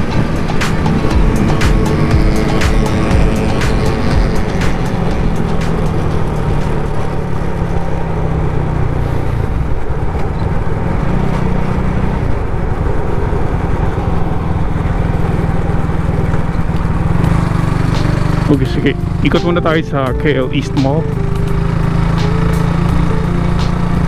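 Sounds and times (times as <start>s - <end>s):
wind noise: 0.0s - 19.4s
motorcycle engine running: 0.0s - 24.0s.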